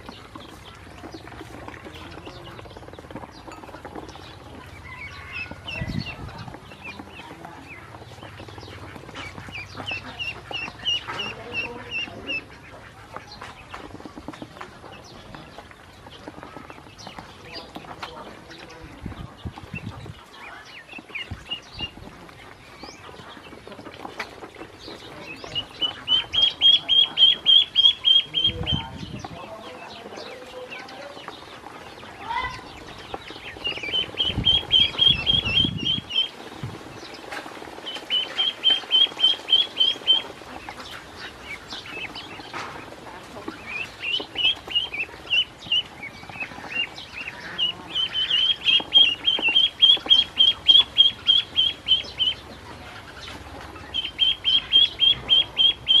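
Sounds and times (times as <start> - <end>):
ducklings peeping: 0.0 - 56.0.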